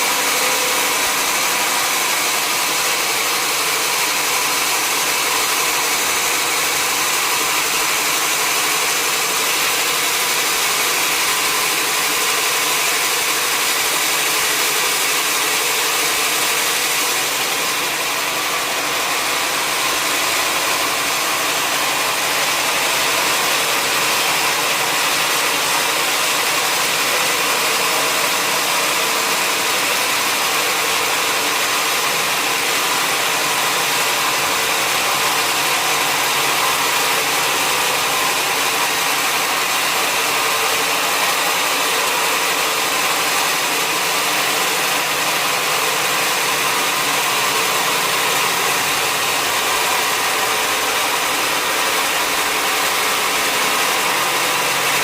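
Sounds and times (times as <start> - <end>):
sawmill machinery engine drone: 0.0 - 55.0.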